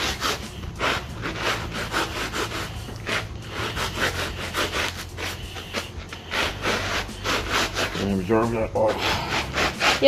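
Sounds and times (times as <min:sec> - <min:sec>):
gritty scraping under shoe soles: 0:00.0 - 0:10.0.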